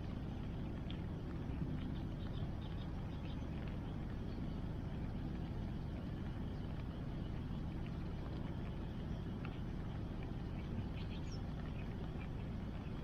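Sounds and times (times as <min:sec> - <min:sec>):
bonfire crackling: 0:00.0 - 0:13.0.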